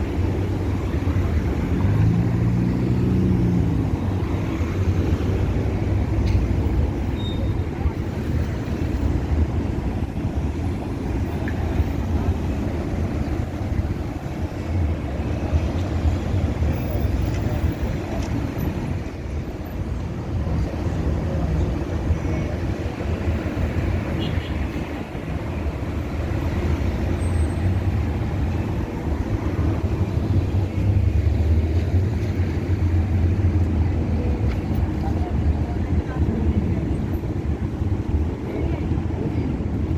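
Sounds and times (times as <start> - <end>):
traffic rumble: 0.0 - 39.9.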